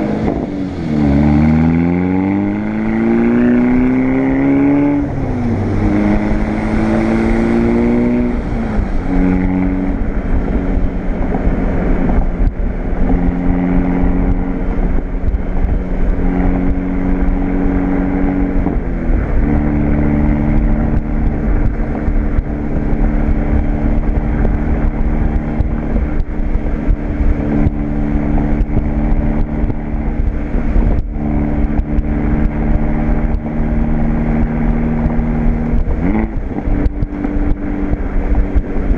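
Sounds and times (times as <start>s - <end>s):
car engine droning: 0.0s - 38.9s
road and wind noise: 0.0s - 38.9s.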